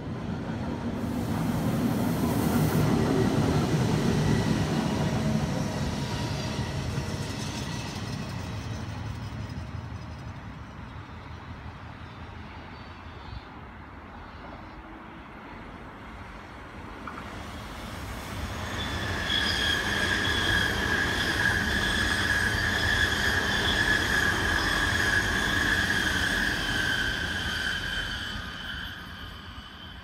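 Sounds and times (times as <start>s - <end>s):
train wheels rumbling on rails: 0.0s - 12.2s, 16.8s - 30.0s.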